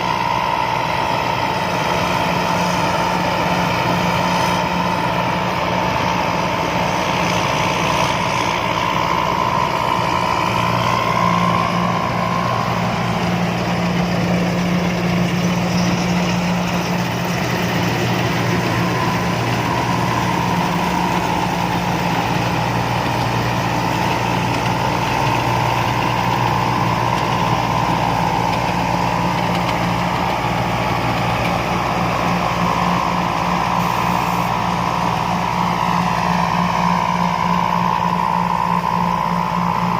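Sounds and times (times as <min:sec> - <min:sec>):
combine harvester engine running: 0:00.0 - 0:39.9
high engine whine: 0:00.0 - 0:39.9.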